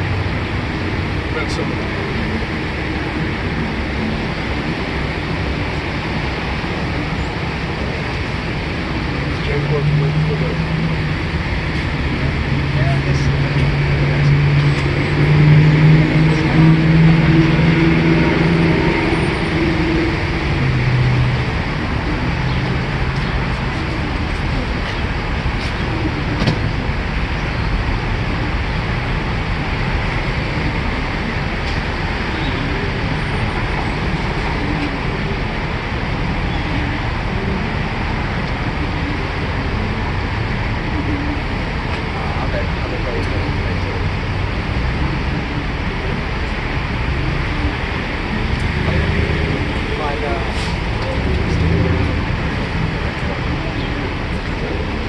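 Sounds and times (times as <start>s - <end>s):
low engine hum: 0.0s - 55.0s
vehicle road noise: 0.0s - 55.0s.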